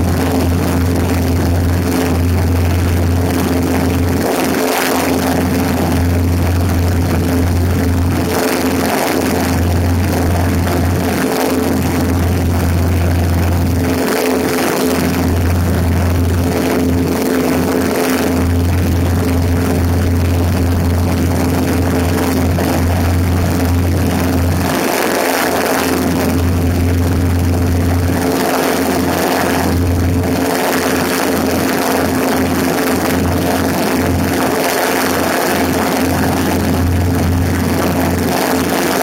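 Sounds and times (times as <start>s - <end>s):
light aircraft engine droning: 0.0s - 39.0s.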